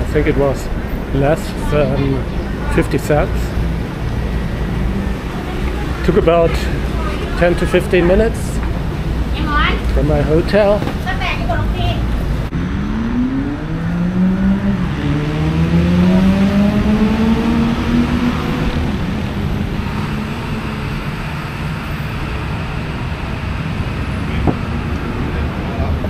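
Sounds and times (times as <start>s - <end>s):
vehicle engine accelerating: 0.0s - 10.7s, 11.8s - 26.0s
traffic noise: 0.0s - 26.0s.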